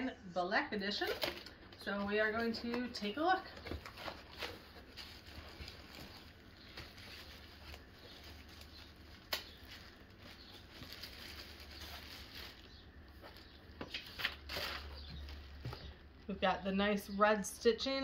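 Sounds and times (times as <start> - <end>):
low steady hum: 0.0 - 18.0
plastic wrap and cardboard rustling: 0.8 - 16.2.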